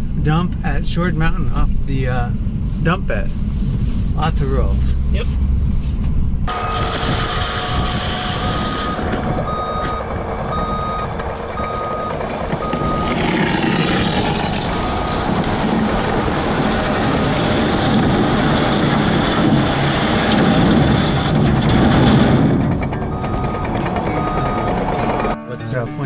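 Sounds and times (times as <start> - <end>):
truck engine running: 0.0 - 26.0
backup alarm beeping: 4.2 - 25.8.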